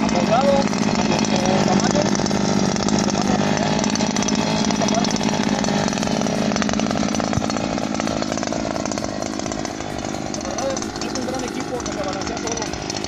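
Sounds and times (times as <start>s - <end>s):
brush cutter engine running: 0.0s - 13.0s.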